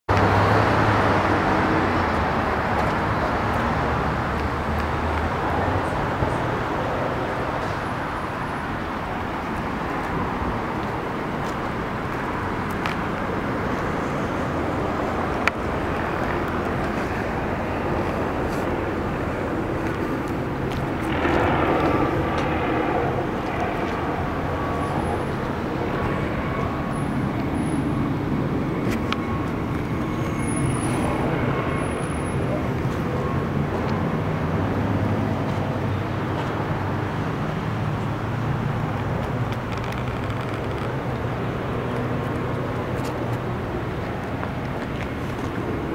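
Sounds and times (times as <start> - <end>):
road traffic noise: 0.1 - 45.9.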